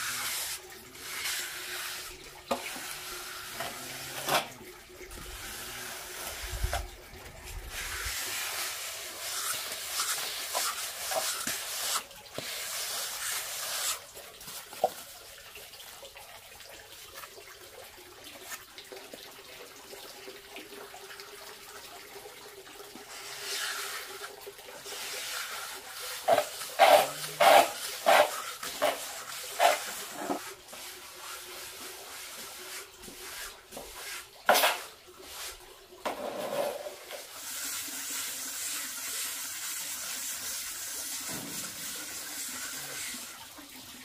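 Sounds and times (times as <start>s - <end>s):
sponge float rubbing wet render: 0.0s - 15.1s, 23.0s - 43.4s.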